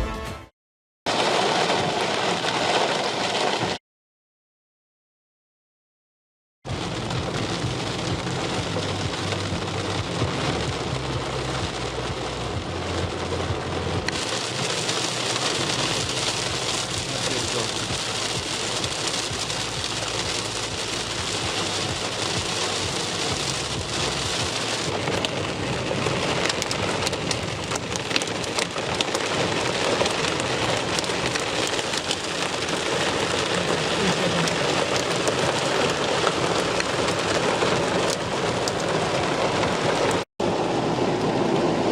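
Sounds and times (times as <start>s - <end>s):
heavy rain pattering: 1.1s - 3.8s, 6.7s - 41.9s.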